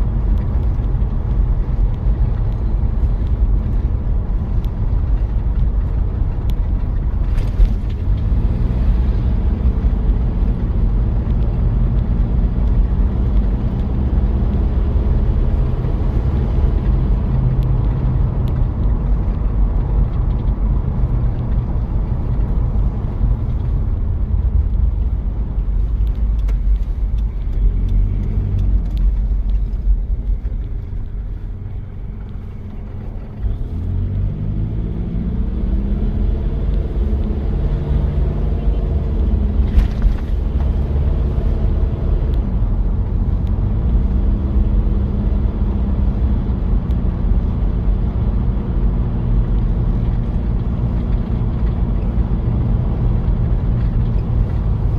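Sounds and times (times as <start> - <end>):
diesel engine revving: 0.0 - 25.8, 27.3 - 54.9.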